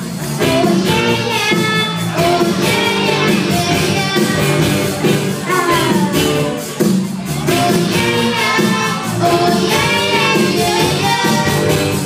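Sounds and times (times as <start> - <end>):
drum kit beat: 0.0 - 12.0
electric guitars: 0.0 - 12.0
girl singing: 0.4 - 6.5, 7.3 - 12.0.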